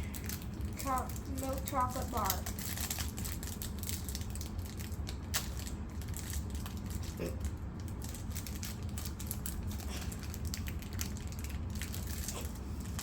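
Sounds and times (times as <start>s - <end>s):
plastic wrapper crinkling: 0.0s - 13.0s
steady low hum: 0.0s - 13.0s.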